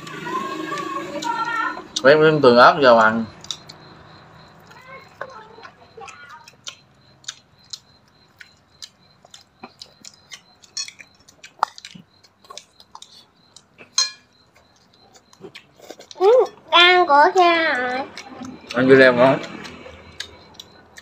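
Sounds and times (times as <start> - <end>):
people chewing meat off ribs: 0.0 - 21.0.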